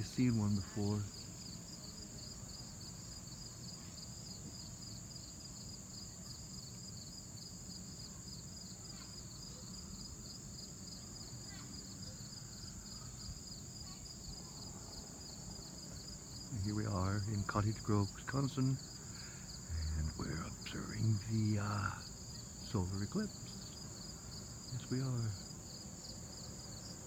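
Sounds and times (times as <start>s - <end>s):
insects high buzz: 0.0s - 27.0s
pulsing cricket chirp: 0.0s - 27.0s.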